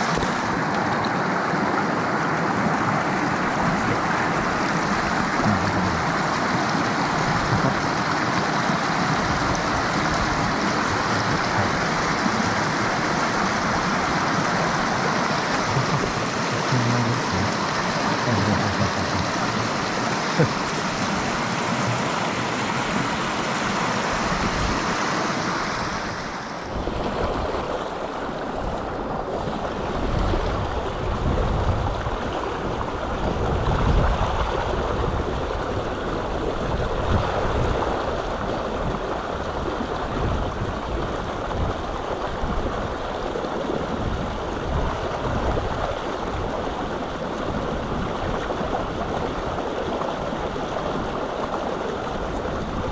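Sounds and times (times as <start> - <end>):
stream rushing over rocks: 0.0 - 52.9
wind on microphone: 9.0 - 52.9.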